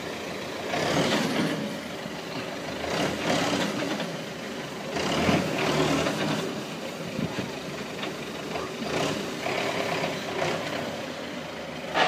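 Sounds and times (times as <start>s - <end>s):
road noise: 0.0s - 12.0s
vehicle engines: 0.0s - 12.0s.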